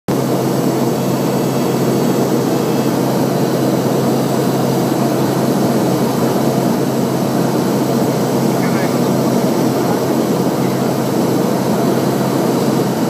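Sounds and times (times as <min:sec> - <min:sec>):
turboprop aircraft cabin drone: 0:00.1 - 0:13.0.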